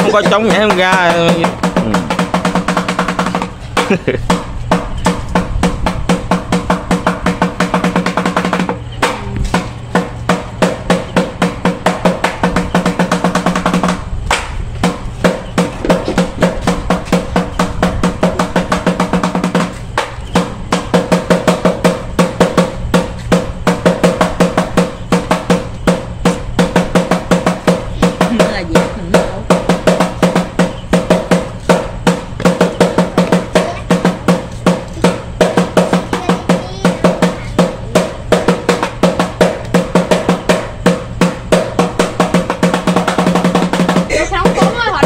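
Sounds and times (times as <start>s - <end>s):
drum beaten in fast rhythm: 0.0s - 45.0s.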